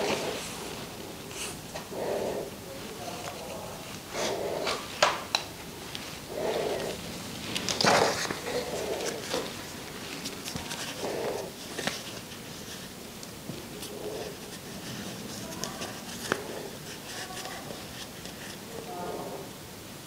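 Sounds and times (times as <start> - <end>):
yarn rustle: 0.0 - 5.0, 5.6 - 19.5
soft breaths: 0.0 - 20.0.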